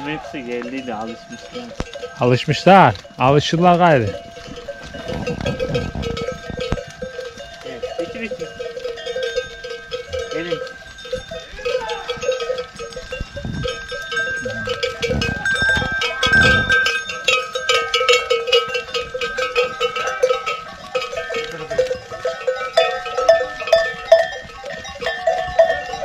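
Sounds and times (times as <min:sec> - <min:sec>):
animal neck bells clanking: 0:00.0 - 0:26.0.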